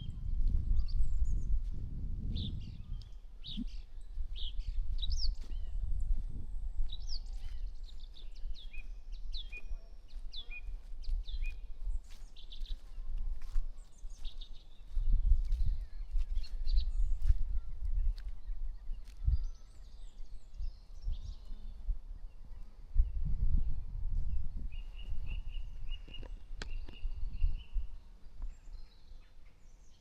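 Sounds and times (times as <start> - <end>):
birds chirping: 2.3 - 30.0.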